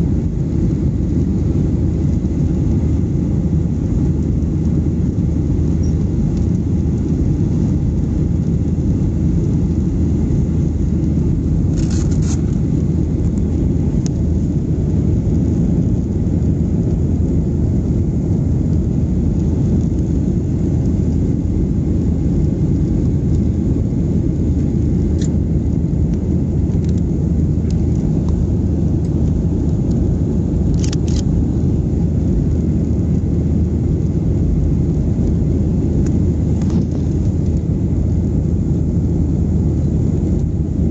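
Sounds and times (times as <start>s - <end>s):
aircraft cabin rumble: 0.0s - 40.9s.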